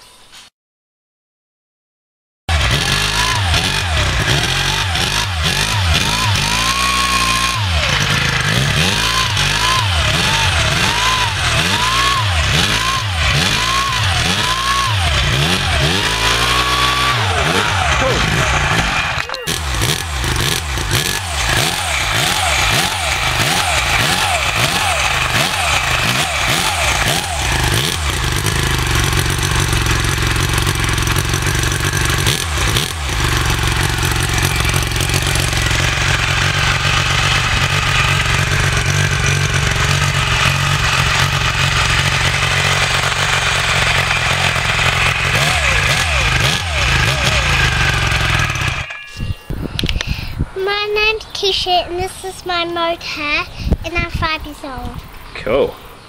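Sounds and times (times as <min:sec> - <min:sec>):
engine running loudly: 0:02.5 - 0:49.0.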